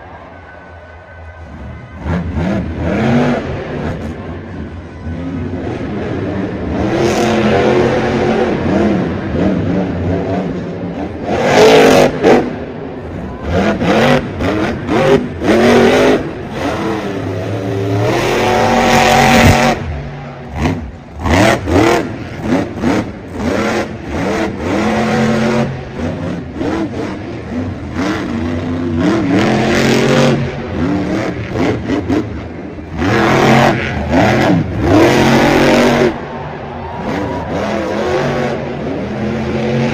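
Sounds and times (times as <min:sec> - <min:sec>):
monster truck engine revving: 0:01.3 - 0:39.9.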